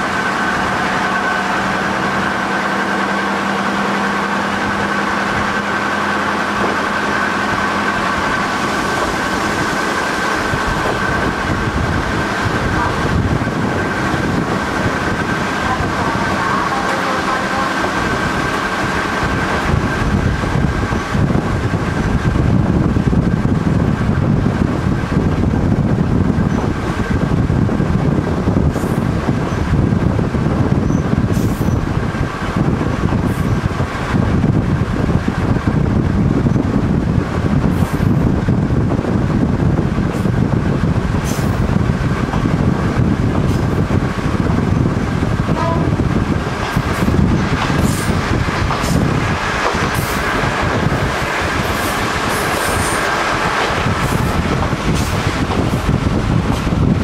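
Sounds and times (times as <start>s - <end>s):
railcar engine and wheels rumbling: 0.0s - 57.0s.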